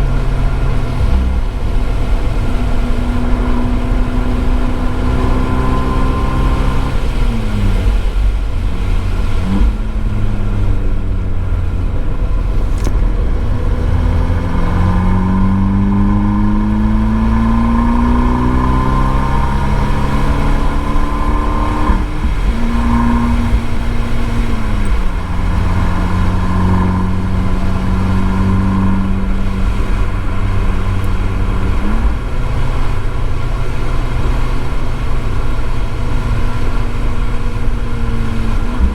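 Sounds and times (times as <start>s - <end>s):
car engine revving hard: 0.0s - 38.9s
road and tyre rumble: 0.0s - 38.9s.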